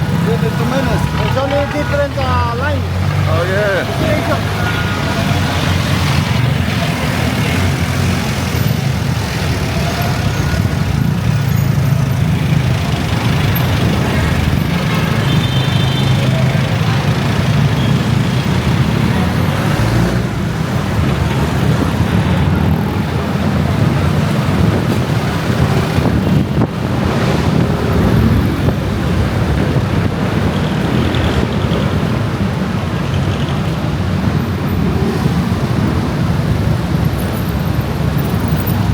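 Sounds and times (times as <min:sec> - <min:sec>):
motorcycle engine and road noise: 0:00.0 - 0:38.9
passing traffic: 0:00.0 - 0:38.9.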